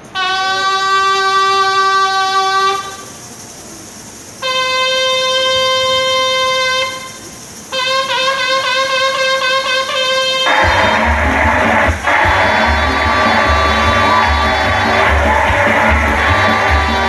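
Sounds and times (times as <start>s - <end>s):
ram's horn blasts: 0.0s - 3.2s, 4.4s - 17.0s.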